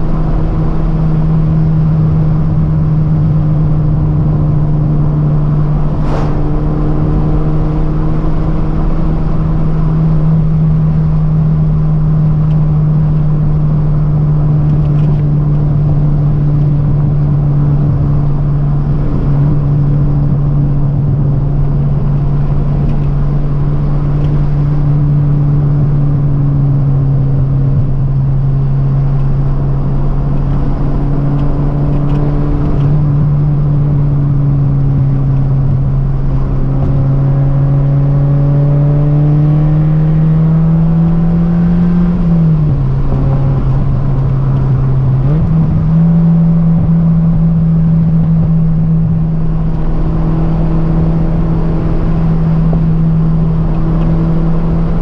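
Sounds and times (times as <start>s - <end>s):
car engine: 0.0s - 55.0s
road and tyre noise: 0.0s - 55.0s.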